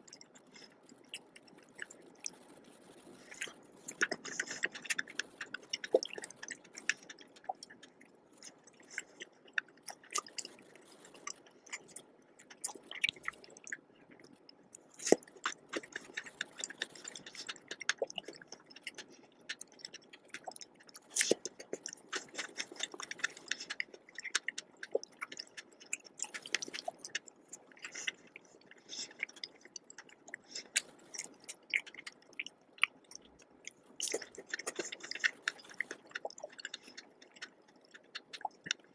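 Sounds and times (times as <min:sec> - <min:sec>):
chewing soft dessert: 0:00.0 - 0:38.9
wet mouth clicks and smacks: 0:00.0 - 0:38.9.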